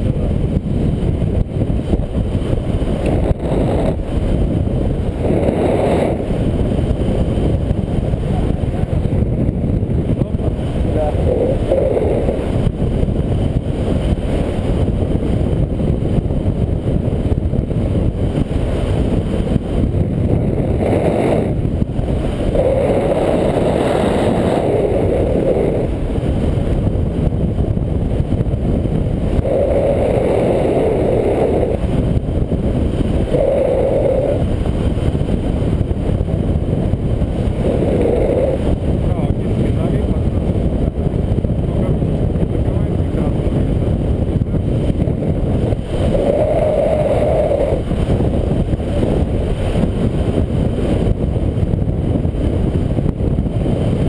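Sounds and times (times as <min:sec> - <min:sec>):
loud wind rushing on microphone: 0:00.0 - 0:54.0.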